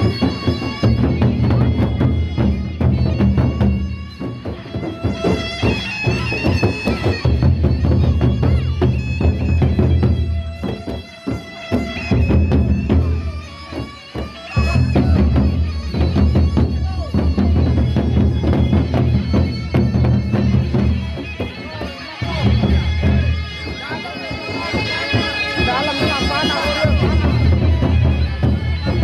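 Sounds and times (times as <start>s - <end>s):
barrel drums beating: 0.0s - 29.0s
reedy wind drone and melody: 0.0s - 29.0s.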